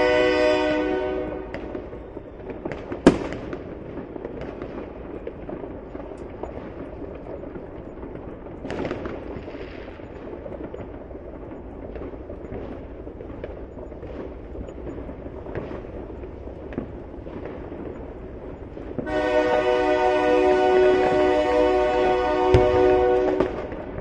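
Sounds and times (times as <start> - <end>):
distant fireworks booming: 0.0 - 24.0.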